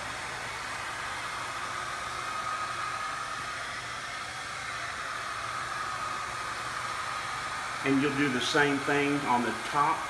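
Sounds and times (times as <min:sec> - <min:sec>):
fan motor whine: 0:00.0 - 0:10.0
hair dryer blowing air: 0:00.0 - 0:10.0.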